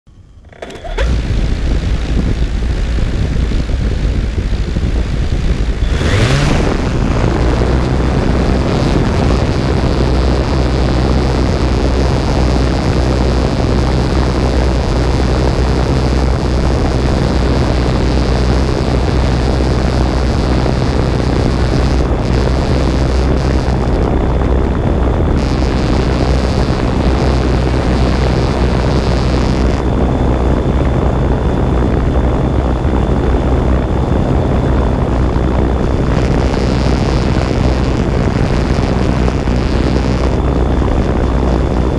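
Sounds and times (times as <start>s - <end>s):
drone propellers whining: 0.2s - 41.9s
rushing air: 0.5s - 41.9s.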